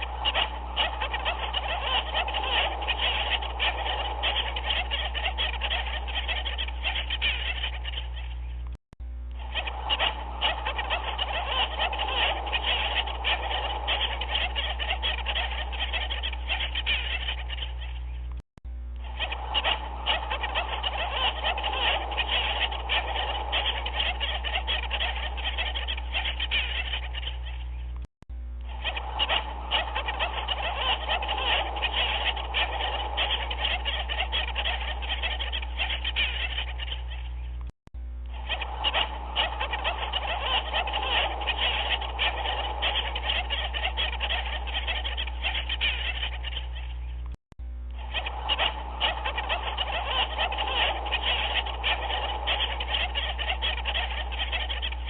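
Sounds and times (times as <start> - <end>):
chorus of animals calling: 0.0 - 8.7, 9.4 - 28.0, 28.6 - 37.6, 38.2 - 47.3, 47.9 - 55.0
steady low hum: 0.0 - 55.0.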